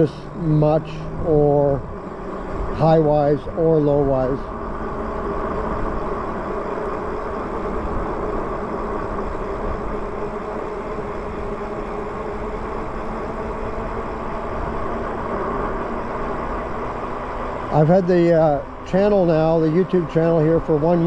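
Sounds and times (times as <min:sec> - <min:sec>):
electric drive humming: 0:00.0 - 0:21.0
wind and tyre noise: 0:00.0 - 0:21.0.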